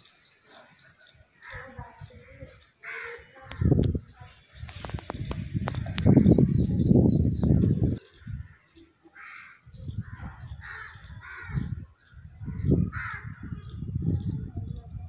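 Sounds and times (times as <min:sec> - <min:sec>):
harsh bird calls: 0:00.0 - 0:15.0
high bird chirps: 0:00.0 - 0:15.0.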